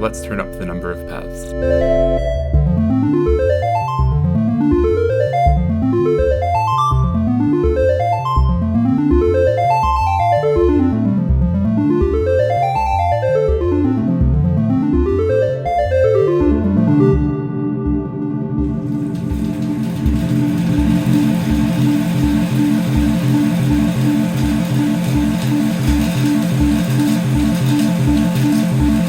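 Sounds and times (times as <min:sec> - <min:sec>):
piano playing rapid runs: 0:00.0 - 0:29.0
steady low beat: 0:00.0 - 0:29.0.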